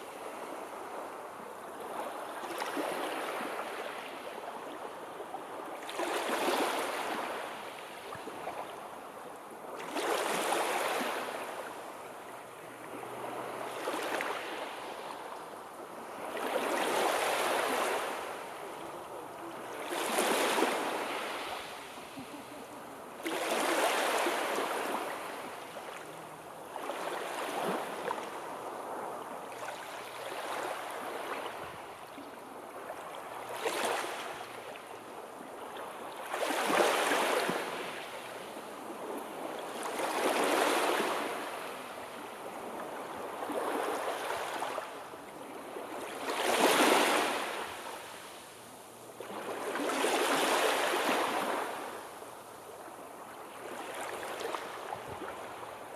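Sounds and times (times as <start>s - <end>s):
sea waves washing ashore: 0.0s - 55.9s.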